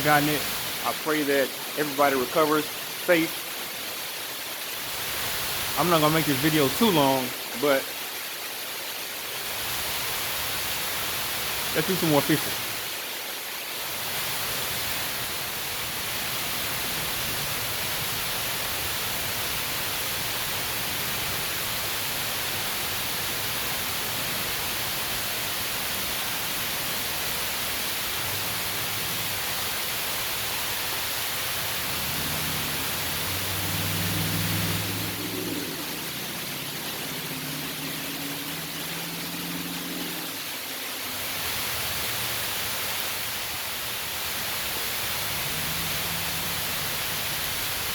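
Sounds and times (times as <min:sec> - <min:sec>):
heavy rain hissing: 0:00.0 - 0:47.9.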